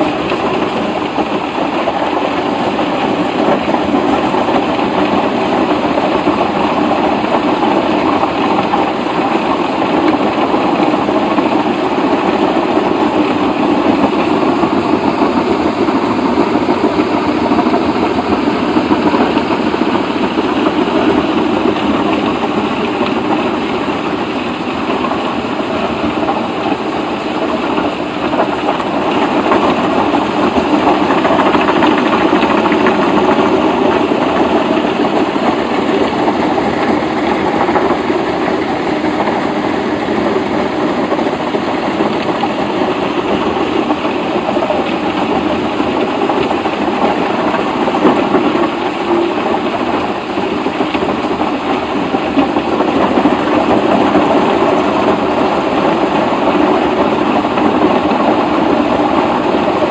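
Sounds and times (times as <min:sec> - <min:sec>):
heavy machinery running: 0:00.0 - 0:59.9.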